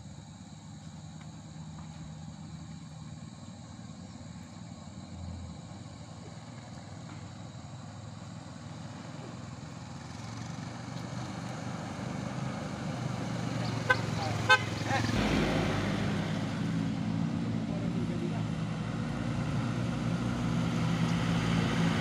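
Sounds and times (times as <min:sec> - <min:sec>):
car engine: 0:00.0 - 0:22.0.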